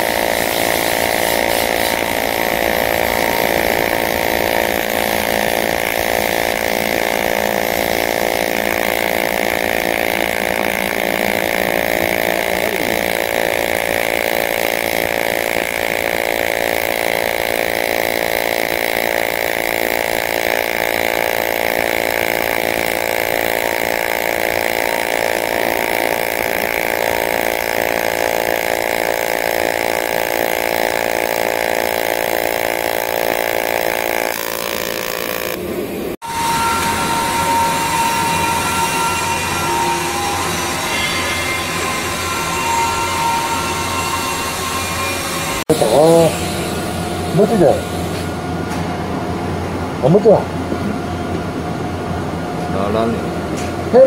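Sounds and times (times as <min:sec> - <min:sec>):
welding arc buzzing: 0:00.0 - 0:54.0.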